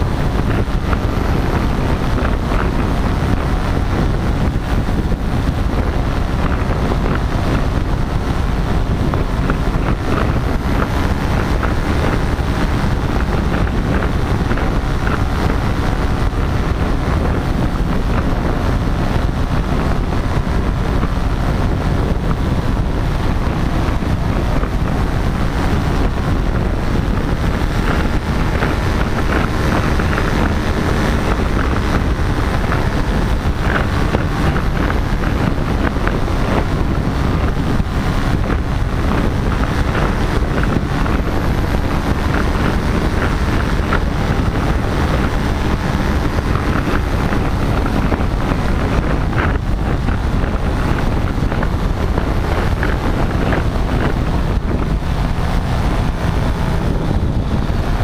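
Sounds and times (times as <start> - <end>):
paramotor engine and propeller: 0.0 - 58.0
wind buffeting microphone: 0.0 - 58.0.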